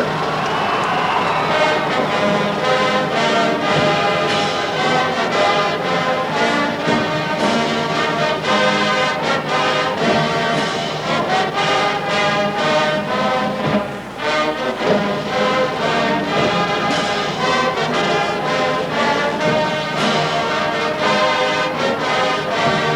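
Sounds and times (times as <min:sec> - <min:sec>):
marching band playing: 0:00.0 - 0:22.9.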